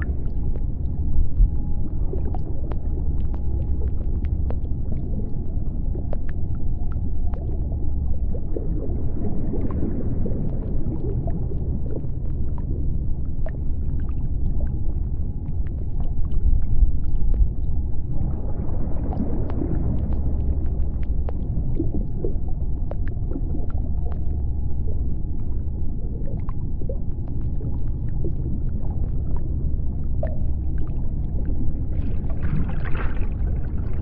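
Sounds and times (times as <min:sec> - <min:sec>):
deep underwater rumble: 0:00.0 - 0:34.0.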